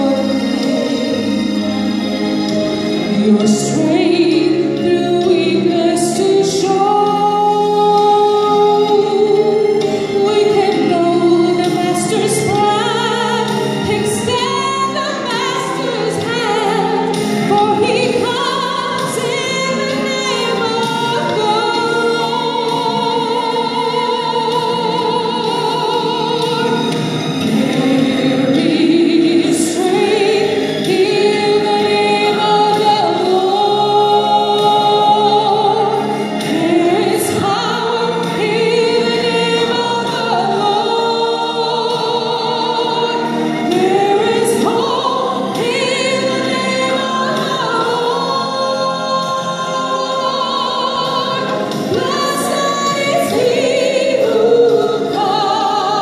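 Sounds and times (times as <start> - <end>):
sustained accompaniment: 0.0 - 56.0
woman singing with vibrato: 0.0 - 56.0.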